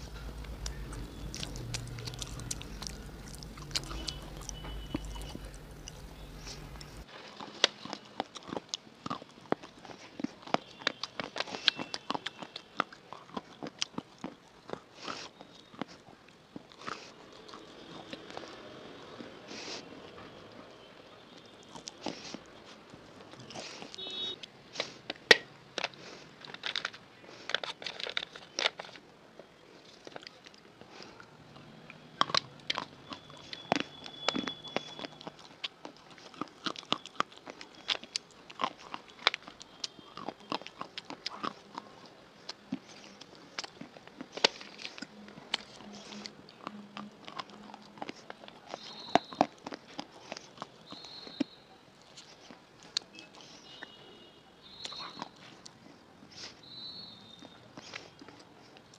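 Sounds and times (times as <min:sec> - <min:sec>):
crunching and chewing: 0:00.0 - 0:58.9.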